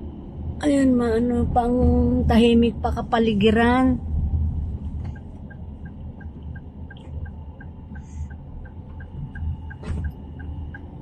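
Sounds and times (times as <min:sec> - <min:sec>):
car interior rumble: 0:00.0 - 0:11.0
turn signal ticking: 0:01.6 - 0:11.0.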